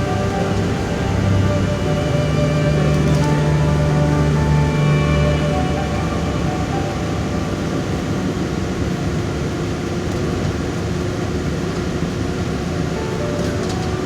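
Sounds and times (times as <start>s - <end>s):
moving train running noise: 0.0s - 14.0s.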